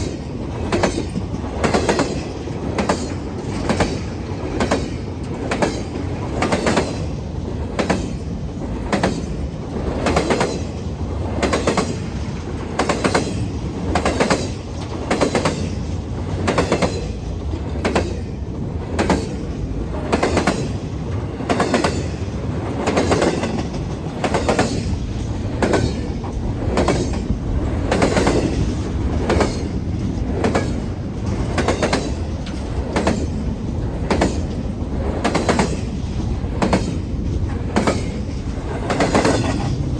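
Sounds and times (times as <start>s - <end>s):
freight train rumble: 0.0s - 39.9s
train wheels clacking over rail joints: 0.0s - 39.9s.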